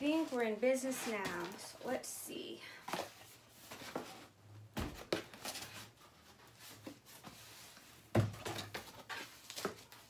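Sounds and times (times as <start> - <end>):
cardboard and paper rustling: 0.0 - 2.1, 2.8 - 10.0.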